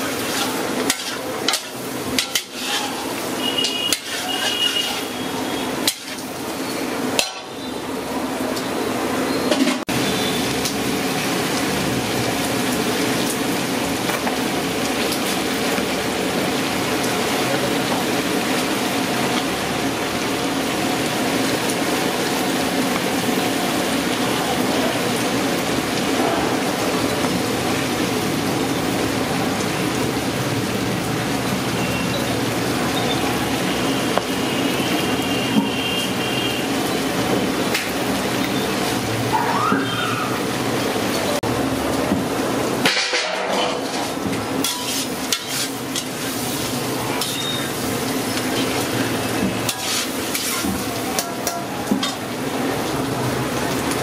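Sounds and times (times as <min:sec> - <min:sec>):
chicken sizzling in a pan: 0:00.0 - 0:08.6, 0:09.9 - 0:30.4, 0:31.0 - 0:41.2, 0:43.8 - 0:54.0.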